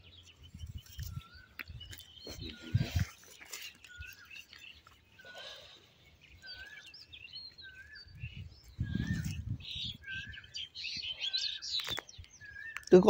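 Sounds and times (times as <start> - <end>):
high bird chirps: 0.0 - 13.0.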